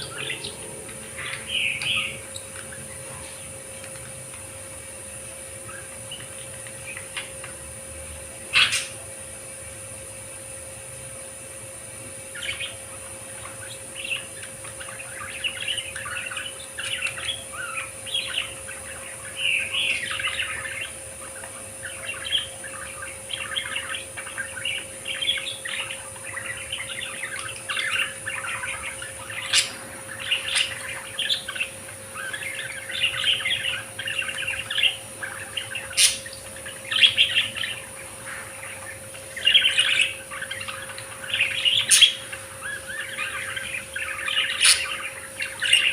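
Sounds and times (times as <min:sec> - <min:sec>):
budgerigars chattering and warbling: 0:00.0 - 0:10.5, 0:11.1 - 0:45.9.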